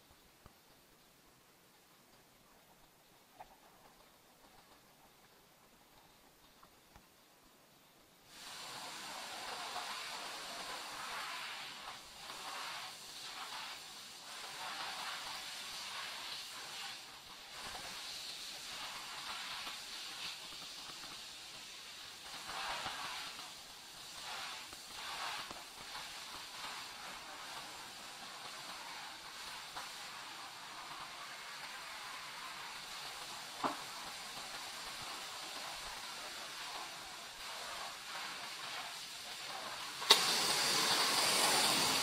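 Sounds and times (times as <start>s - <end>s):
high-pressure water spray hissing: 8.2s - 42.0s.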